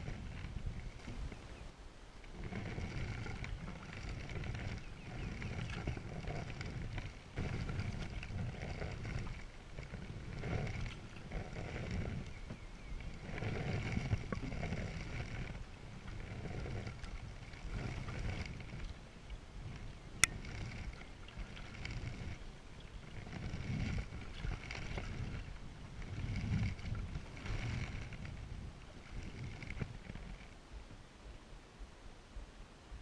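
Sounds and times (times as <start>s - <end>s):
paddle strokes splashing: 0.0s - 30.9s
wind rumble on microphone: 0.0s - 33.0s.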